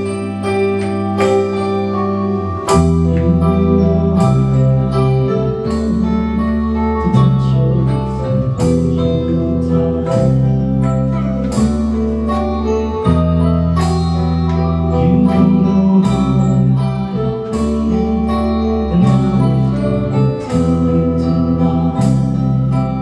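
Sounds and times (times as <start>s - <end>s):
electric bass guitar: 0.0s - 23.0s
guitar playing: 0.0s - 23.0s
keyboard: 0.0s - 23.0s.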